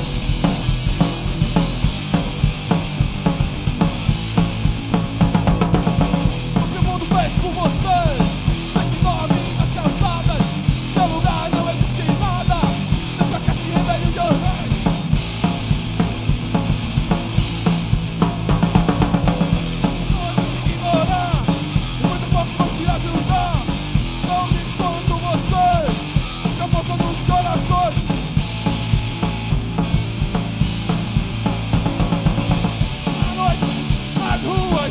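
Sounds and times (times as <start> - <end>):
bass guitar: 0.0 - 34.9
distorted electric guitar: 0.0 - 34.9
drum kit beat: 0.0 - 34.9.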